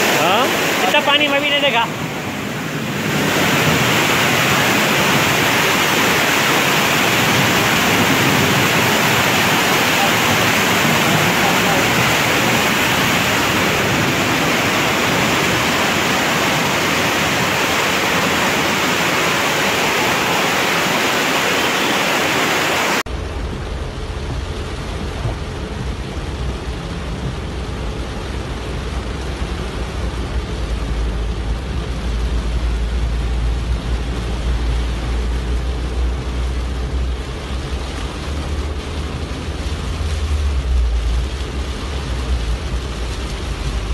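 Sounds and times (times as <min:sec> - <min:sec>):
floodwater rushing: 0:00.0 - 0:43.9
heavy rain on a car: 0:00.0 - 0:43.9.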